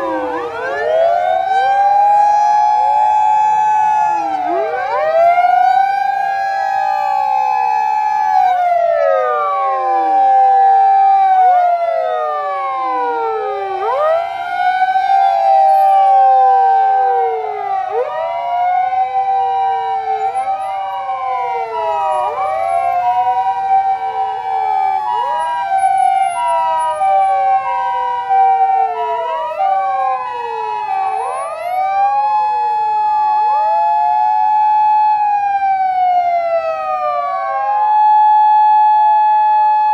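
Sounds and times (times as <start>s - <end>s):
emergency vehicle sirens wailing: 0.0s - 39.9s
two-tone siren: 0.0s - 39.9s.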